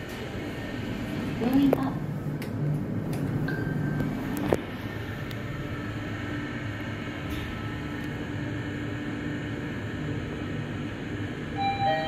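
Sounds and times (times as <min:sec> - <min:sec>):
elevator ride rumble and hiss: 0:00.0 - 0:12.0
faint hum: 0:00.0 - 0:12.0.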